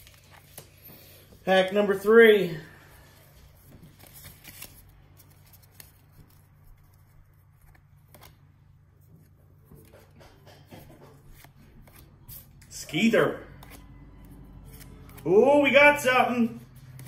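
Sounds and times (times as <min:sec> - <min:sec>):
trading cards rustling: 0:00.0 - 0:17.0.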